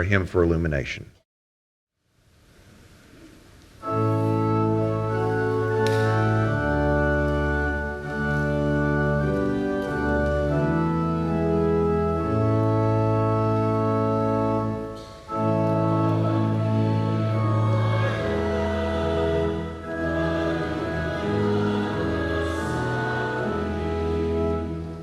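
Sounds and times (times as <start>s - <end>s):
church organ hymn chords: 0.0s - 1.2s, 3.8s - 25.0s.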